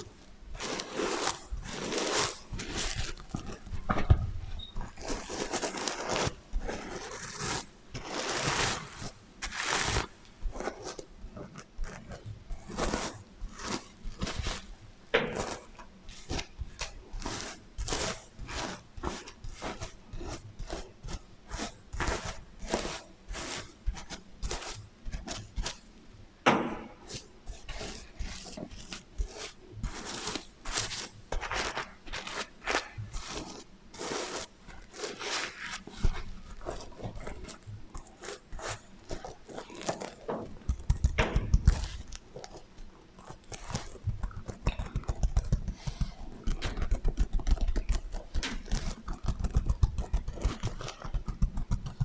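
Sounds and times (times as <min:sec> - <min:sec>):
fingers scratching sequins: 0:00.0 - 0:03.9, 0:04.5 - 0:26.0, 0:26.8 - 0:52.0.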